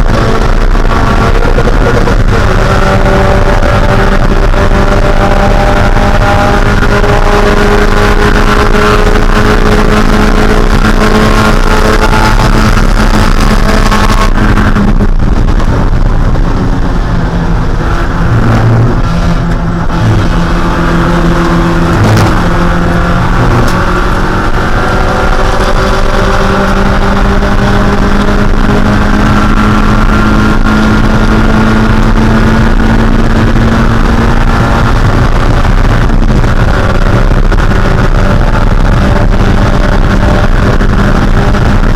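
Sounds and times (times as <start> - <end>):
race car engine running hard: 0.0 - 41.9.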